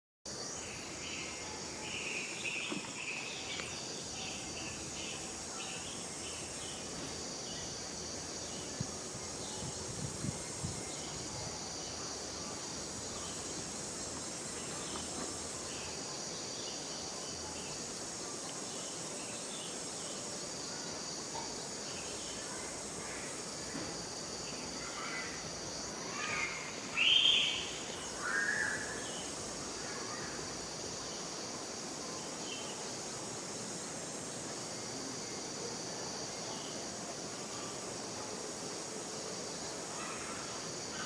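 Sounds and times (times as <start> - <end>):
high-pitched insect chorus: 0.3 - 41.0.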